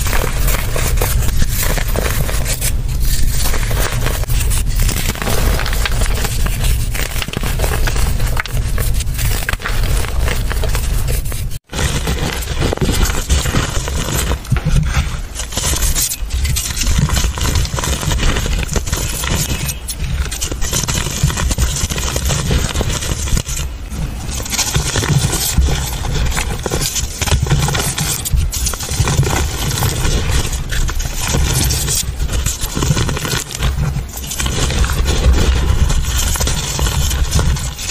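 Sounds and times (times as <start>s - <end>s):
powder crunching and crumbling: 0.0s - 37.9s.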